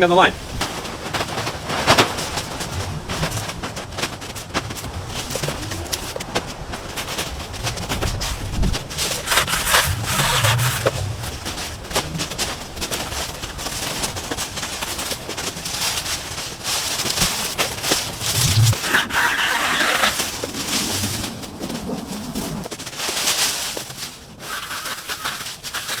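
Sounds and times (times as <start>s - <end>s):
dry brush rustling and snapping: 0.1s - 26.0s.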